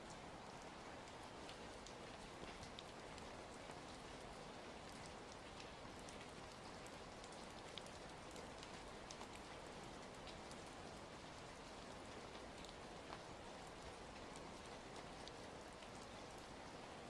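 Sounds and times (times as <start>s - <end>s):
steady rain falling: 0.0s - 17.0s
wood fire crackling: 0.4s - 16.5s.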